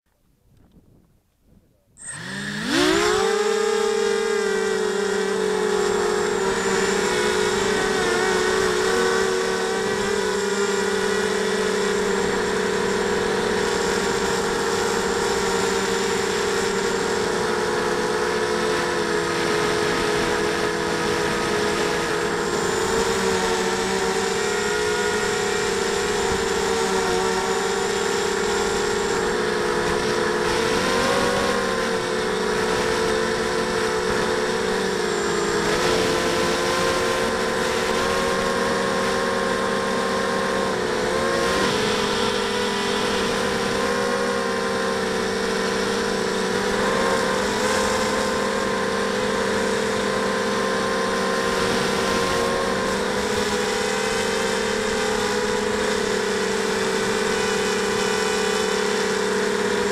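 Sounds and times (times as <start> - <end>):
drone motors whining: 1.8 - 59.9.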